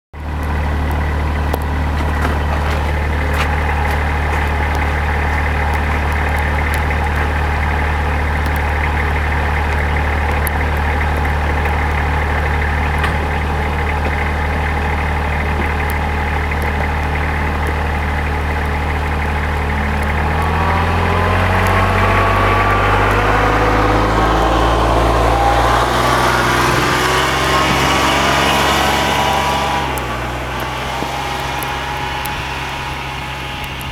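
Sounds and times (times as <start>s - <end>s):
diesel engine idling and revving: 0.1s - 33.9s.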